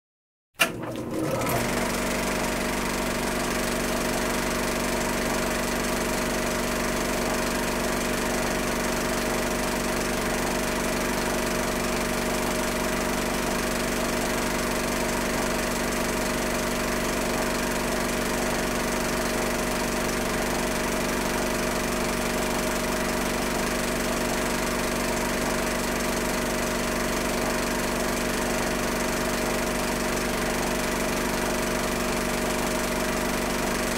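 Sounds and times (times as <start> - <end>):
film projector whirring and clattering: 0.6 - 33.9.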